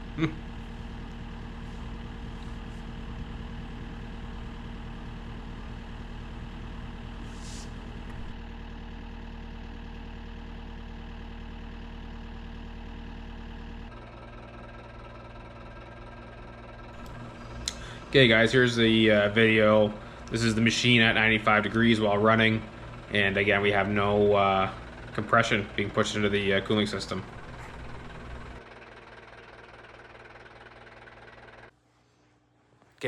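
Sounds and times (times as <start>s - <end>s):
diesel engine idling: 0.0s - 31.7s.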